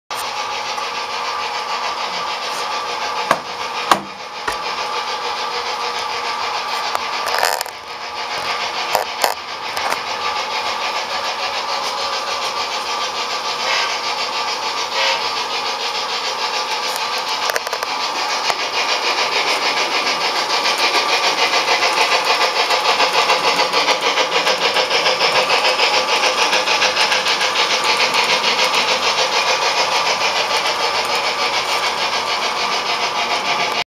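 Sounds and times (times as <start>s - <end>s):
model steam locomotive chuffing: 0.1s - 33.8s
model train running on track: 0.1s - 33.8s.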